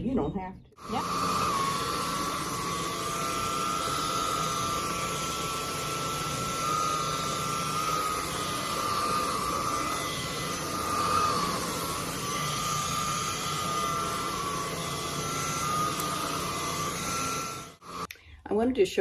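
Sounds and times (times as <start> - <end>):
vacuum cleaner motor whine: 0.8 - 18.1.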